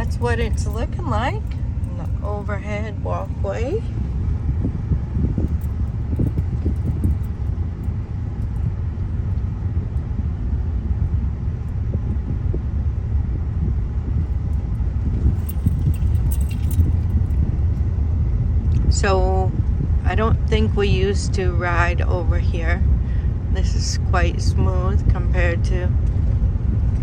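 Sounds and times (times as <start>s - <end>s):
car cabin rumble: 0.0s - 27.0s.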